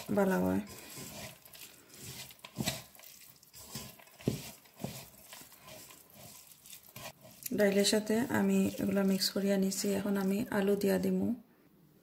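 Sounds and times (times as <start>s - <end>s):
lentils squishing in hand: 0.0s - 10.7s.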